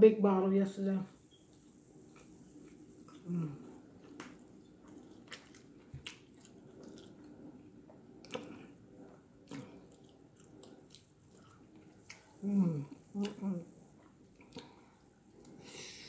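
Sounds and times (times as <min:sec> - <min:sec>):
wet chewing: 0:01.4 - 0:15.6.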